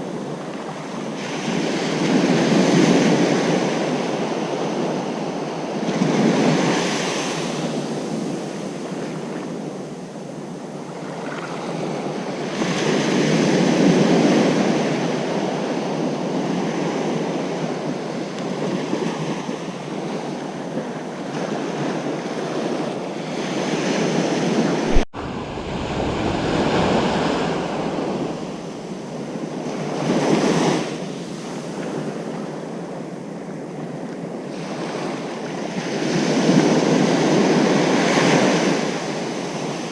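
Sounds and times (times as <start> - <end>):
ocean surf breaking on beach: 0.0 - 32.3.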